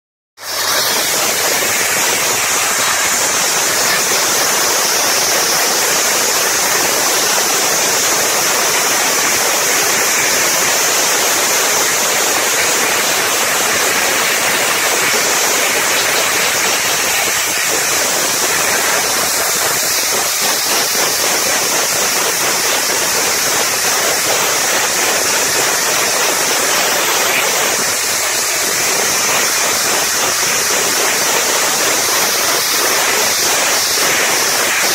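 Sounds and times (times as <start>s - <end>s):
blasting nozzle hissing: 0.4s - 34.9s.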